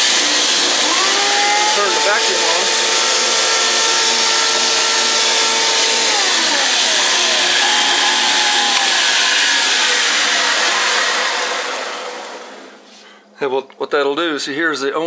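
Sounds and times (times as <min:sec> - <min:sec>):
motor hum spinning down: 0:00.0 - 0:12.8.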